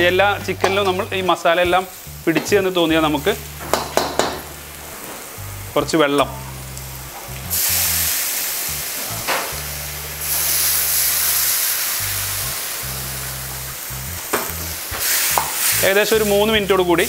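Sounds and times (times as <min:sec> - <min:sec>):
background music: 0:00.0 - 0:17.0
water hissing and sizzling in pan: 0:00.1 - 0:17.0.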